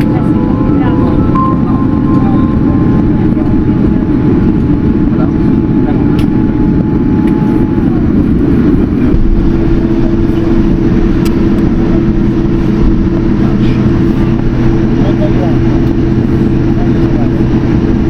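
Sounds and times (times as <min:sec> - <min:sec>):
aircraft cabin rumble: 0:00.0 - 0:18.0
engine hum: 0:00.0 - 0:18.0.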